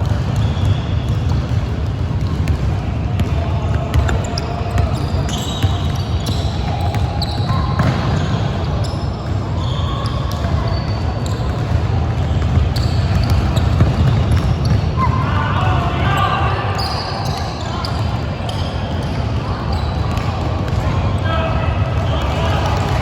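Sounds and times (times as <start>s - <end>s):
basketball bouncing on court: 0.0s - 15.3s, 17.2s - 21.0s
sneakers squeaking on floor: 0.0s - 21.3s.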